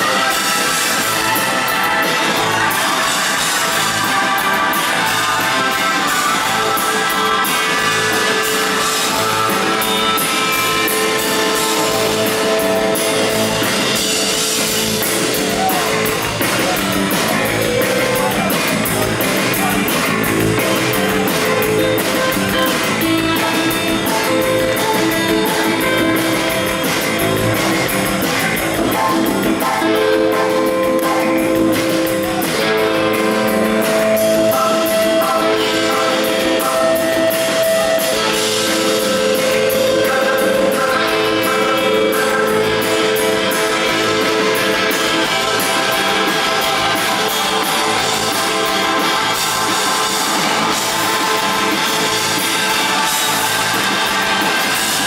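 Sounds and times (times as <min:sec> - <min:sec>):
drum kit beat: 0:00.0 - 0:55.0
electric guitar: 0:00.0 - 0:55.0
rock band playing: 0:00.0 - 0:55.0.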